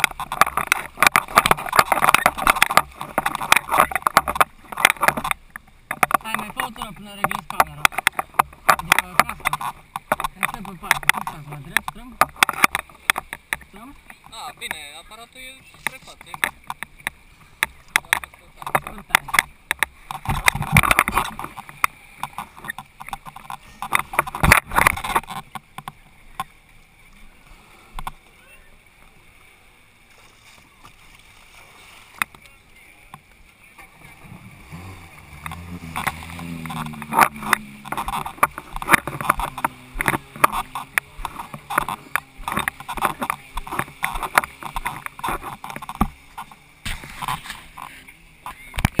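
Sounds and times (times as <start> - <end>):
sharp clicks and knocks: 0.0 - 26.6, 34.8 - 49.0
water splashing against hull: 0.0 - 49.0.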